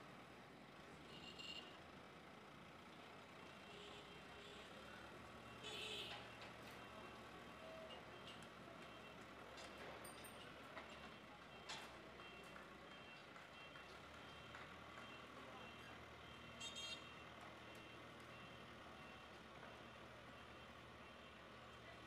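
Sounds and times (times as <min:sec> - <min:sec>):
diesel engine hum: 0:00.0 - 0:22.0.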